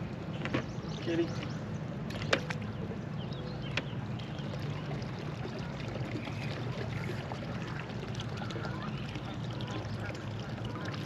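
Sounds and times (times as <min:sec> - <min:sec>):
water around a boat: 0:00.0 - 0:11.0.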